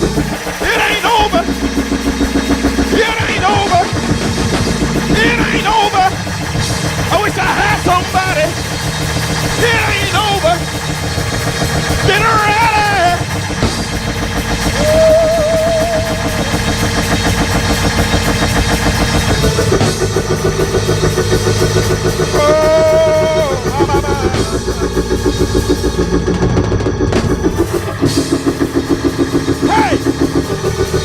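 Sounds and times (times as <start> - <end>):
long wavering held notes: 0.0 - 26.5
band playing gospel music: 0.0 - 31.0
drum kit and cymbals: 0.0 - 31.0.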